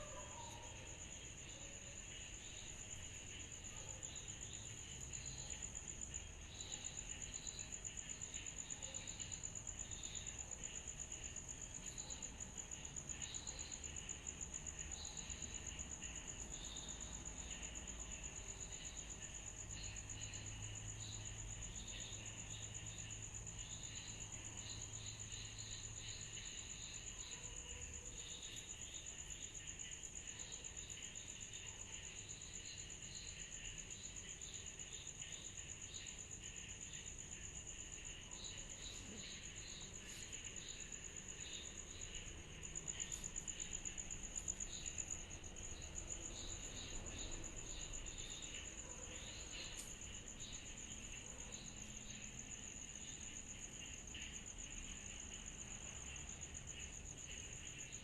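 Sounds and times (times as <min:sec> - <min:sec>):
insect chorus drone and chirps: 0:00.0 - 0:58.0.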